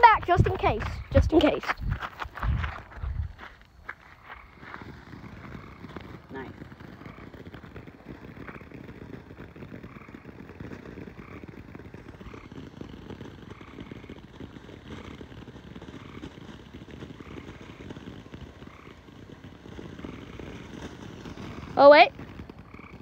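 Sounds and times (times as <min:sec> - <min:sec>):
firework crackling: 0:00.0 - 0:23.0.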